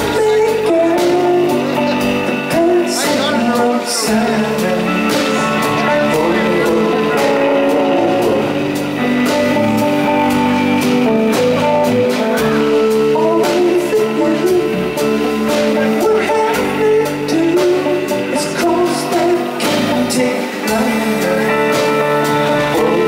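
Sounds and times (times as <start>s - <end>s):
drum kit with cymbals: 0.0s - 23.0s
electric guitar: 0.0s - 23.0s
man singing: 0.0s - 23.0s.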